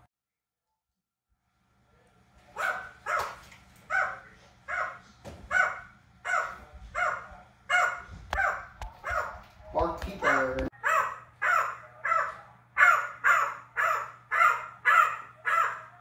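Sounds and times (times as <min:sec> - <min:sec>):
parrot calling: 0:02.6 - 0:16.0.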